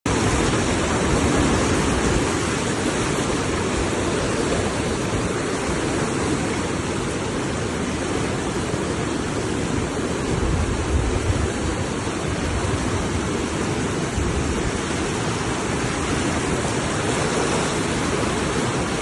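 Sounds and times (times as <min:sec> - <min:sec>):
river water rushing: 0:00.1 - 0:19.0.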